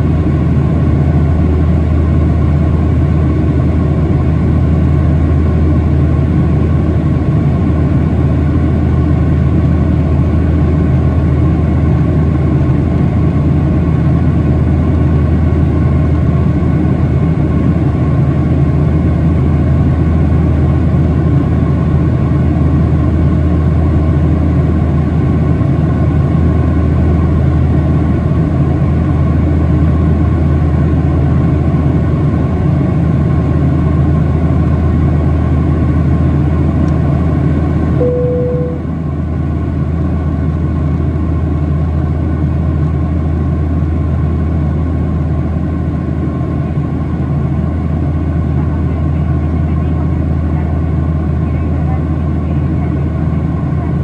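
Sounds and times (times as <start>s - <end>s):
jet engine cabin hum: 0.0s - 54.0s.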